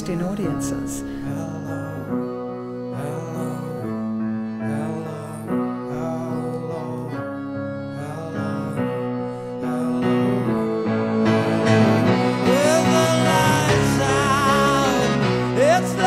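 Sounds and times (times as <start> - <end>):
slow held keyboard chords: 0.0 - 16.0.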